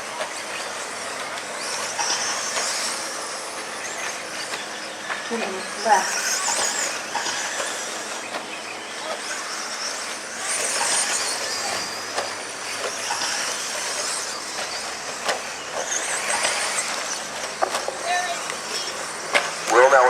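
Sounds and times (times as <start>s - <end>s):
radio-controlled truck motor whine: 0.0s - 20.0s
wheels hitting dirt track: 0.0s - 20.0s.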